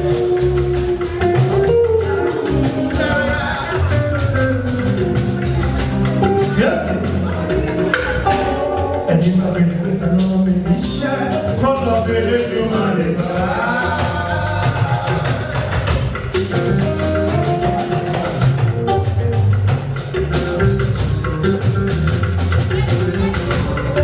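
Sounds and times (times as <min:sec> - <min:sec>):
drums and percussion: 0:00.0 - 0:24.0.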